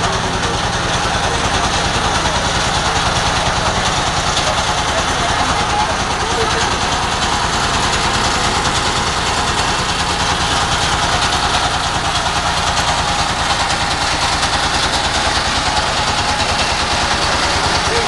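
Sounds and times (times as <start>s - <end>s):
boat engine running steadily: 0.0s - 18.0s.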